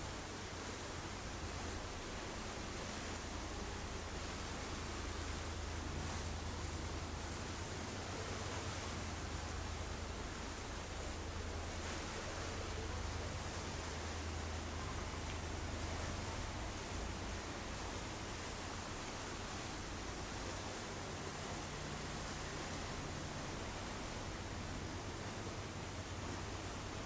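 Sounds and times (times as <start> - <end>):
boat engine drone: 0.0 - 27.0
sea water rushing: 0.0 - 27.0
wind: 0.0 - 27.0.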